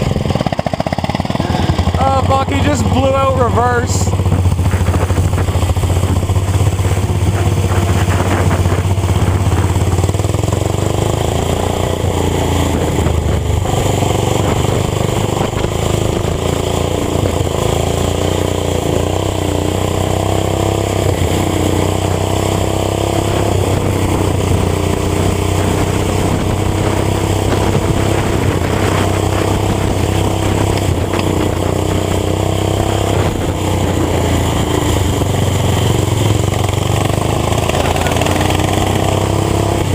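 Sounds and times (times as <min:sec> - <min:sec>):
small engines droning at speed: 0:00.0 - 0:39.9.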